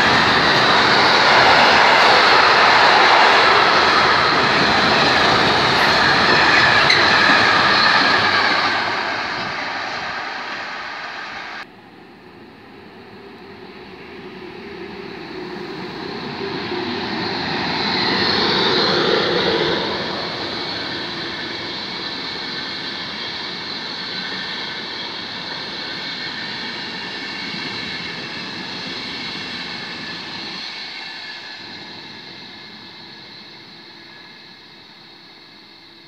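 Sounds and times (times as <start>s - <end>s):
passenger train passing at speed: 0.0s - 36.0s.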